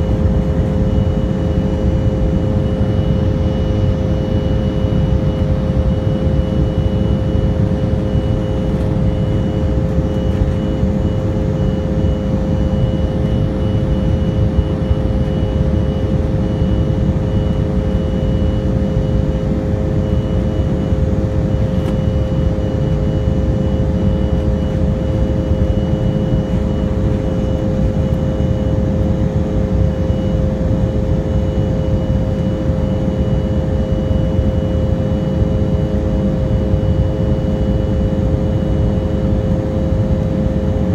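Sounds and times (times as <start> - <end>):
airplane cabin rumble: 0.0 - 40.9
faint high whine: 0.0 - 40.9.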